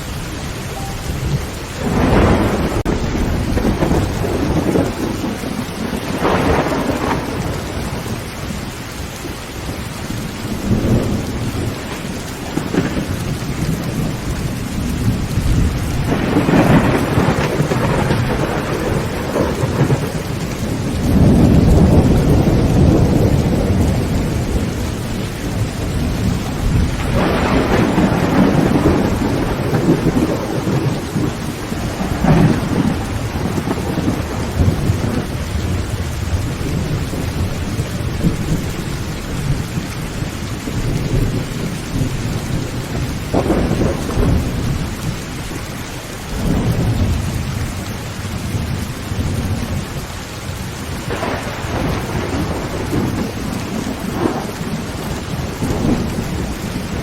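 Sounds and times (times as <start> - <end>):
heavy rain on a tin roof: 0.0 - 57.0
rolls of thunder: 1.0 - 8.3, 10.4 - 45.5, 50.8 - 57.0.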